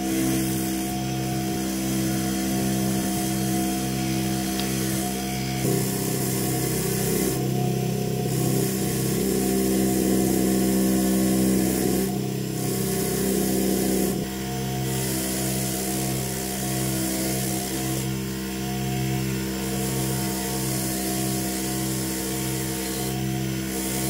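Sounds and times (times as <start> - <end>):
bench grinder motor humming: 0.0 - 24.0.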